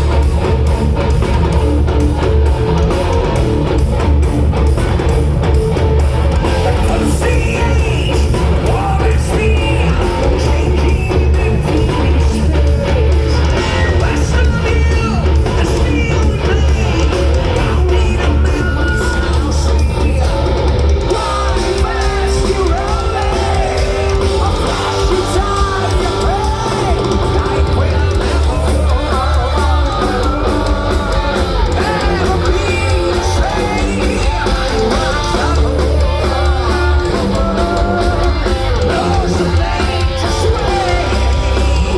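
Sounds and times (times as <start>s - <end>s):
bass guitar: 0.0s - 41.9s
guitars: 0.0s - 41.9s
heavy metal drums: 0.0s - 41.9s
person singing: 6.5s - 41.9s.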